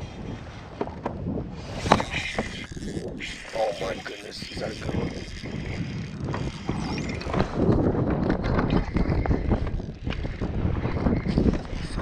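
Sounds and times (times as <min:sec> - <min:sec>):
choppy water: 0:00.0 - 0:12.0
wind buffeting microphone: 0:00.0 - 0:12.0.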